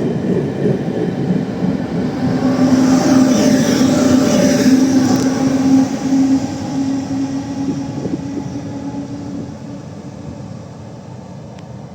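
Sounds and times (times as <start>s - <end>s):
electric locomotive hum: 0.0s - 11.9s
train rolling rumble: 0.0s - 11.9s.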